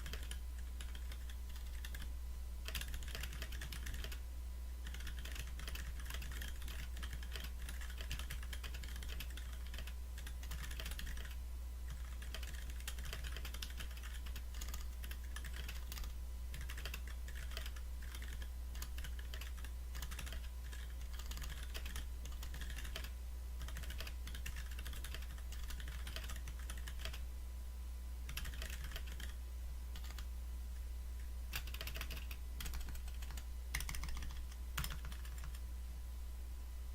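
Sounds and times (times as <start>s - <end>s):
typing on mechanical keyboard: 0.0s - 4.2s, 4.8s - 27.2s, 28.3s - 29.4s, 30.0s - 30.3s, 31.5s - 35.6s
steady low hum: 0.0s - 36.9s.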